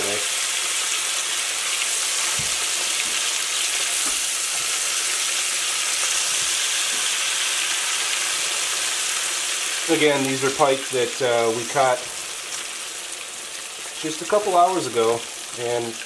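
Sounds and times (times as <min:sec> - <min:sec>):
fish deep-frying in hot oil: 0:00.0 - 0:16.0.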